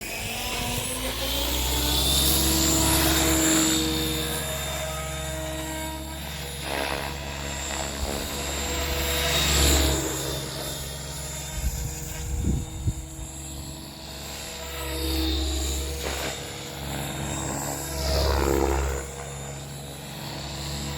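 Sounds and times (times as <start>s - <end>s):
rc helicopter whining: 0.0s - 20.9s.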